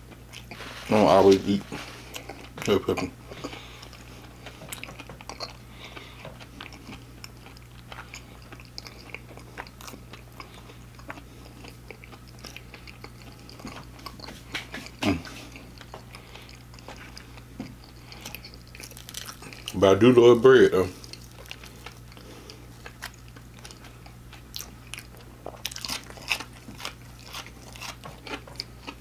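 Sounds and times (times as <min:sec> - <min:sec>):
chewing fried food: 0:00.0 - 0:29.0.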